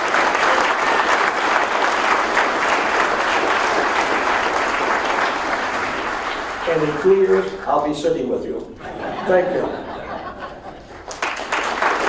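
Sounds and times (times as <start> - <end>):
audience applauding: 0.0 - 8.2, 10.1 - 12.0.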